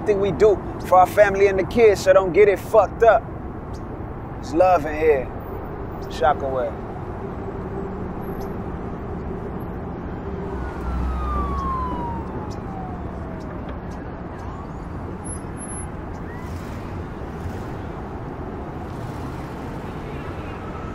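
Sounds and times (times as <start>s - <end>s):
road noise rumble: 0.0s - 20.9s.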